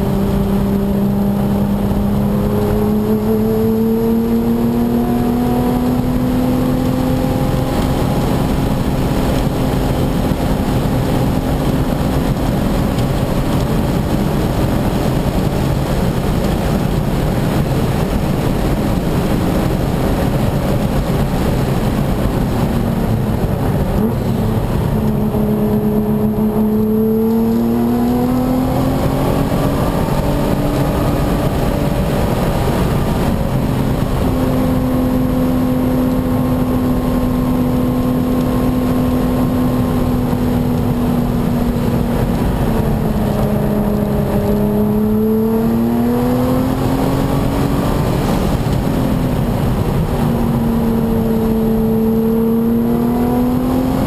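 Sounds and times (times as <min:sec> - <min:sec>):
car engine at speed: 0:00.0 - 0:54.0
wind and road noise: 0:00.0 - 0:54.0.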